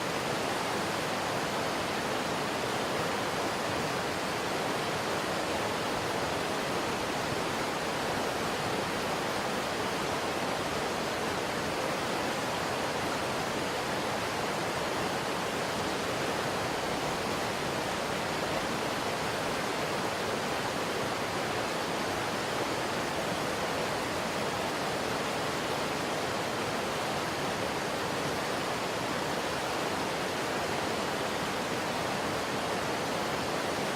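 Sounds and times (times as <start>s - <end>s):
river rushing: 0.0s - 33.9s.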